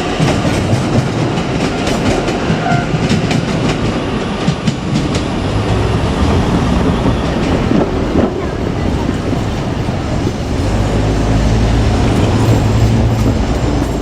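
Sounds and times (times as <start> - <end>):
train rumble: 0.0 - 14.0
train wheels clicking over rail joints: 0.0 - 14.0.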